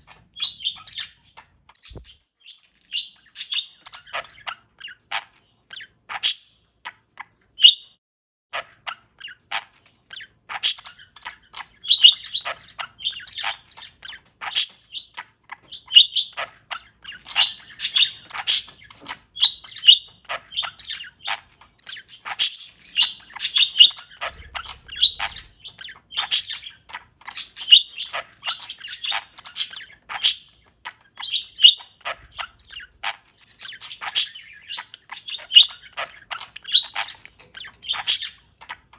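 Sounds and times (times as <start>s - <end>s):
parakeet chirping: 0.0s - 7.8s, 8.6s - 38.9s.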